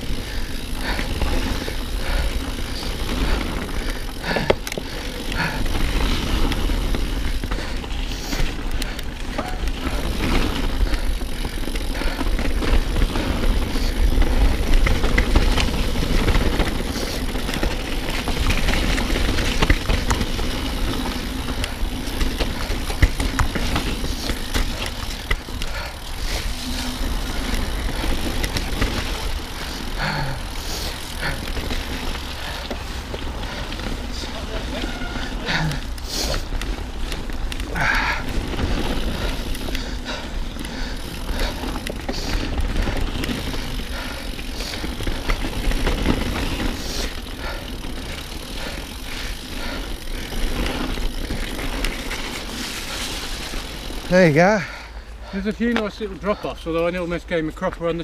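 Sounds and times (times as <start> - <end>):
chain and frame rattling: 0.0 - 54.1
bike tyres rolling on ground: 0.0 - 58.0
bike knocking over bumps: 0.1 - 54.0.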